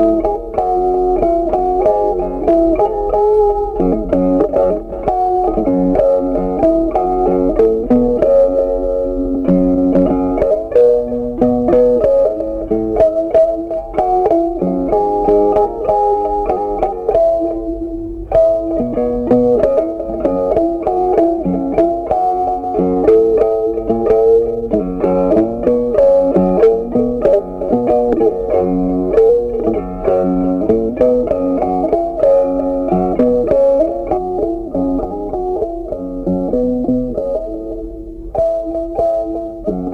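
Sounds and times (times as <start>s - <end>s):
plucked string melody: 0.0s - 39.9s.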